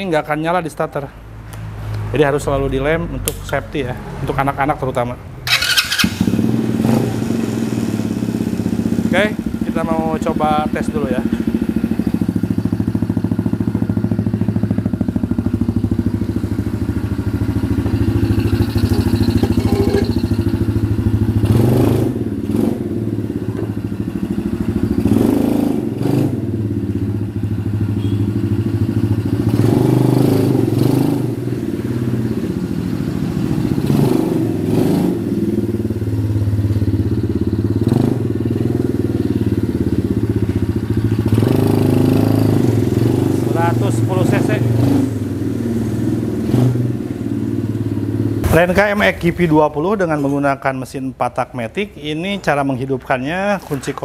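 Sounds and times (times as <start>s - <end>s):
motorbike engine revving: 5.4s - 49.7s.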